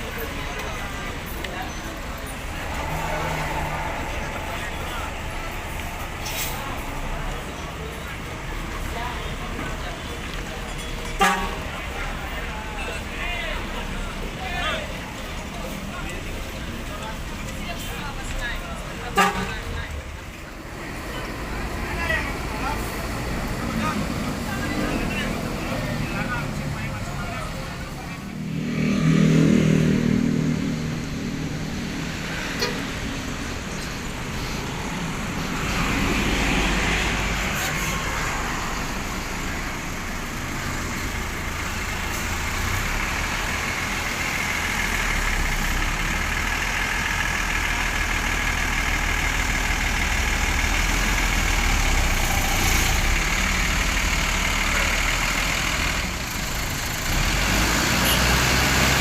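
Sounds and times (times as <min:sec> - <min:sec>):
traffic engine rumble: 0:00.0 - 0:59.0.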